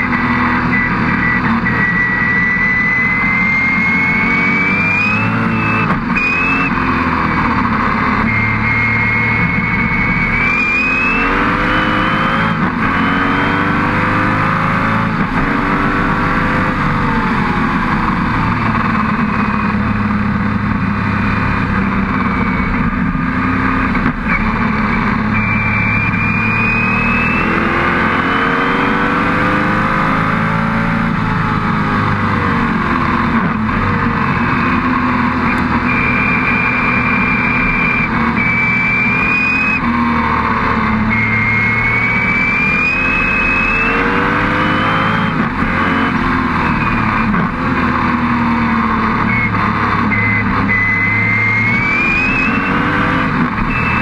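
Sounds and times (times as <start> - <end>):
racing car engine accelerating: 0.0 - 54.0
wind and road rush: 0.0 - 54.0.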